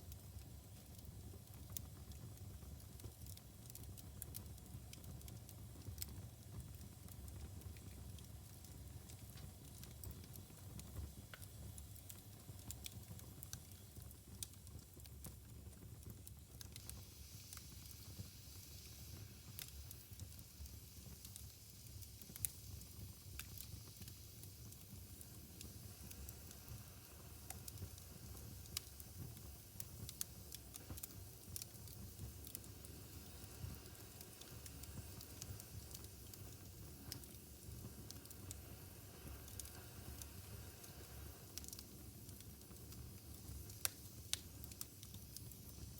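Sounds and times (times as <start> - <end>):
soft hiss: 0.0 - 45.9
wood fire crackling: 0.0 - 45.9.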